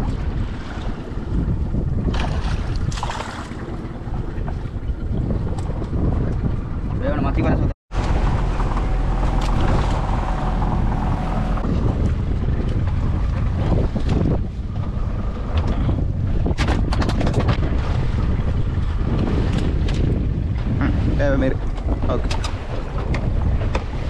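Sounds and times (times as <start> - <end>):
water rushing past hull: 0.0 - 5.5, 7.9 - 24.0
boat engine running: 0.0 - 24.0
wind buffeting microphone: 0.0 - 24.0.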